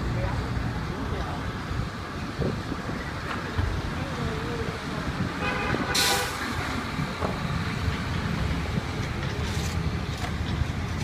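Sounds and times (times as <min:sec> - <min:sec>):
motor vehicles rumbling: 0:00.0 - 0:11.0.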